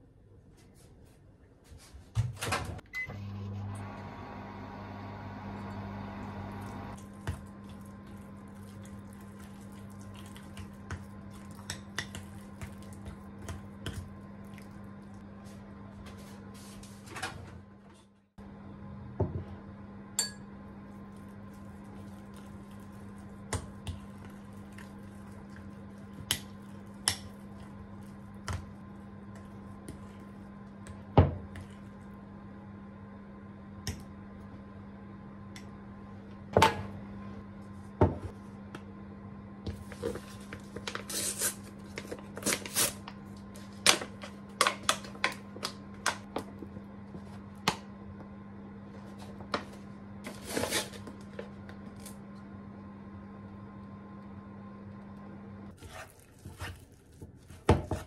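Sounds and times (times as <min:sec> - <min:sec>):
microwave oven humming: 0:02.2 - 0:58.0.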